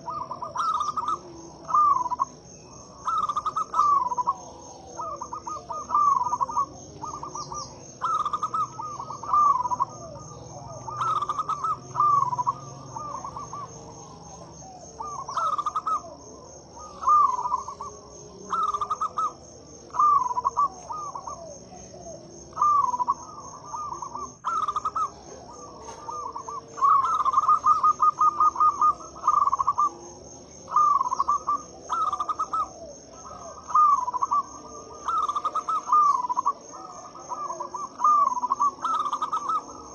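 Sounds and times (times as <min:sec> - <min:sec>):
doves cooing: 0:00.0 - 0:39.9
high insect trill: 0:00.0 - 0:39.9.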